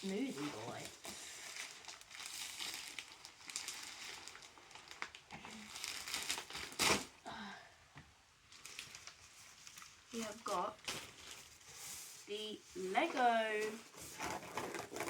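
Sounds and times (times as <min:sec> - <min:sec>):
packaging crumpling and rustling: 0:00.0 - 0:07.2, 0:08.5 - 0:12.2, 0:12.9 - 0:15.0.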